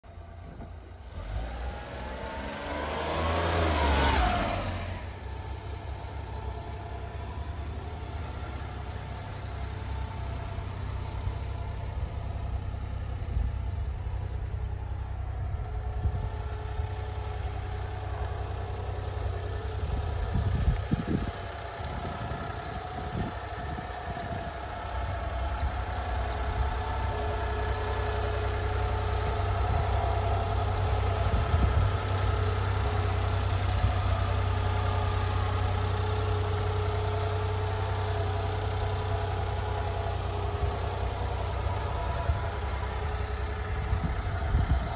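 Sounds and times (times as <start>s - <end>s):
small engine revving and idling: 0.0s - 44.9s.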